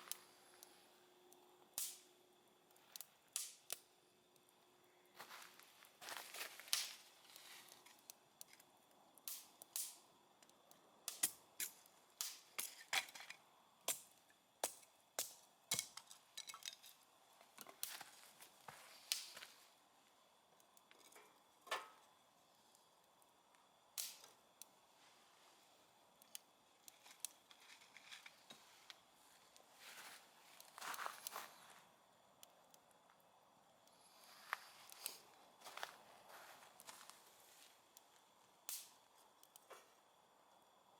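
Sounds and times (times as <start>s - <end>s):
wood fire crackling: 0.0s - 40.3s.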